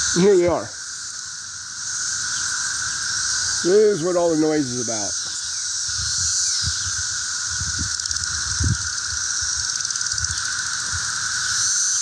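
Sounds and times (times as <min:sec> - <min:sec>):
cicadas chorus droning: 0:00.0 - 0:12.0.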